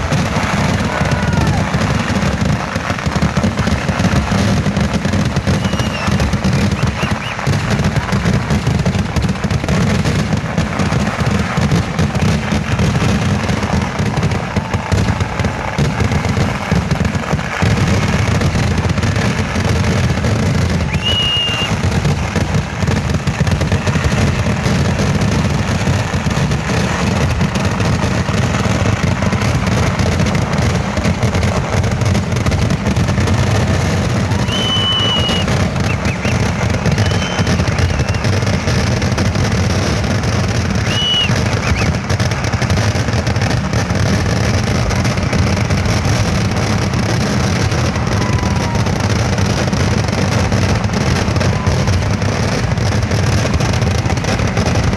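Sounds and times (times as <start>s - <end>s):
high firework whistle: 0.0s - 9.2s, 12.5s - 25.0s, 27.0s - 54.9s
fireworks bangs and crackling: 0.0s - 54.9s.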